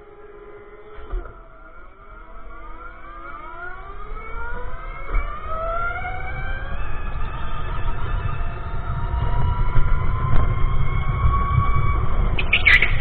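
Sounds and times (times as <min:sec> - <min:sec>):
electric go-kart motors whining: 0:00.0 - 0:13.0.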